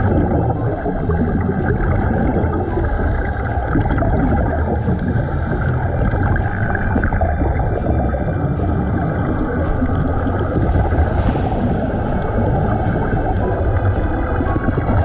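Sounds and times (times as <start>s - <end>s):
muffled underwater rumble: 0.0s - 15.0s
regulator bubbles gurgling: 0.0s - 15.0s.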